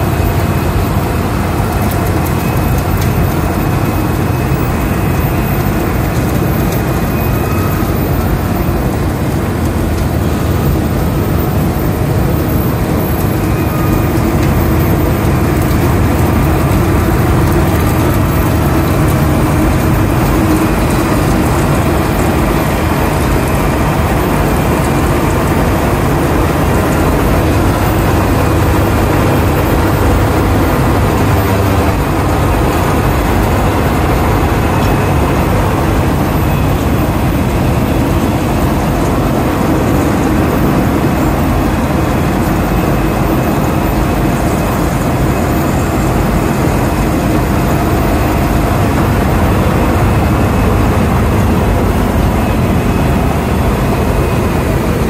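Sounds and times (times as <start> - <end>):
diesel construction machinery engine: 0.0 - 55.0.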